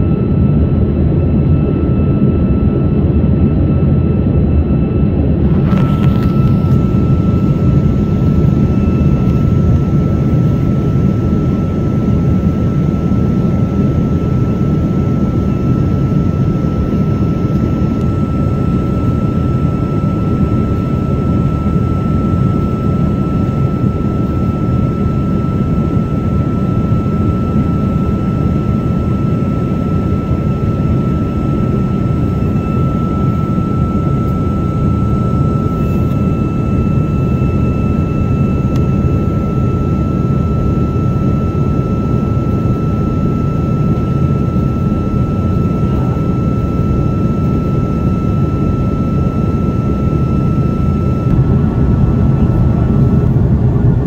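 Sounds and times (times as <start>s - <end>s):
higher whine: 0.0s - 54.0s
jet aircraft roar: 0.0s - 54.0s
thin steady whine: 0.0s - 54.0s.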